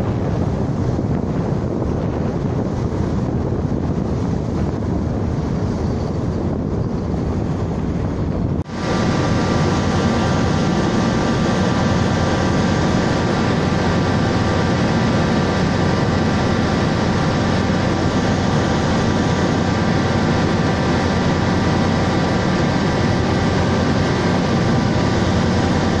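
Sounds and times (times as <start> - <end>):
engine drone: 0.0 - 26.0
faint steady whine: 0.0 - 26.0
wind on microphone: 0.0 - 26.0.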